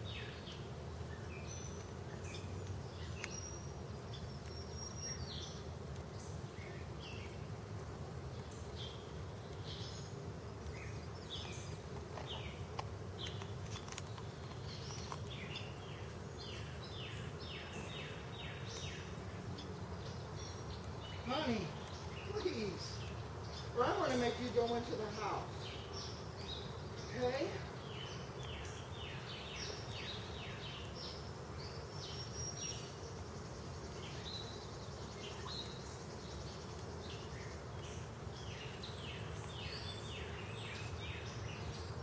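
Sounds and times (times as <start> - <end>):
birds chirping: 0.0 - 42.0
honeybees buzzing: 0.0 - 42.0.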